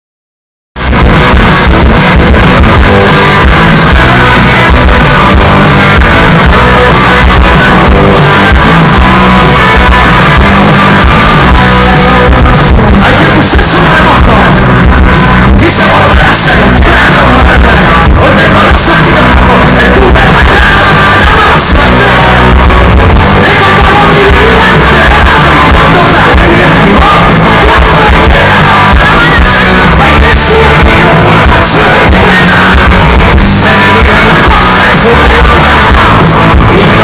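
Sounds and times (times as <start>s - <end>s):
rock band playing live: 0.8s - 37.0s
person singing: 0.9s - 37.0s.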